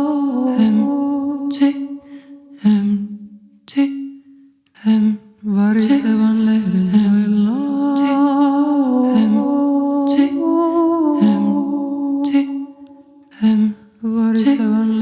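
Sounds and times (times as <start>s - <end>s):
unaccompanied voices singing: 0.0s - 4.0s, 4.8s - 15.0s.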